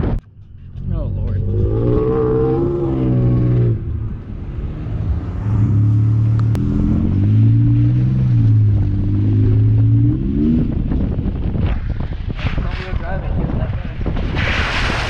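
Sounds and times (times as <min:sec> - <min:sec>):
car engine pulling under throttle: 0:00.0 - 0:12.3.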